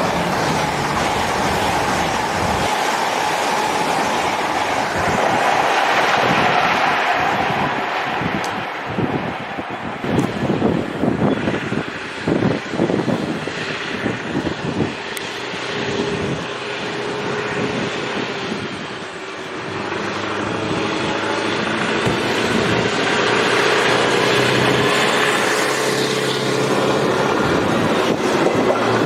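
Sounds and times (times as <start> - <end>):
diesel engine running: 0.0 - 29.0
wind buffeting microphone: 0.0 - 29.0.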